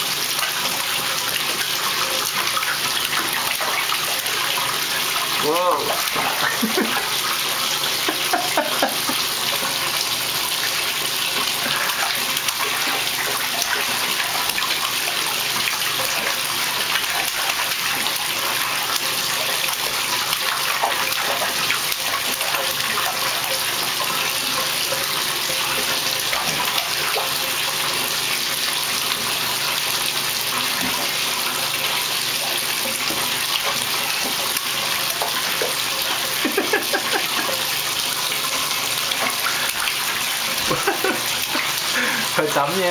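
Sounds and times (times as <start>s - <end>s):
faucet running into tub: 0.0s - 42.9s.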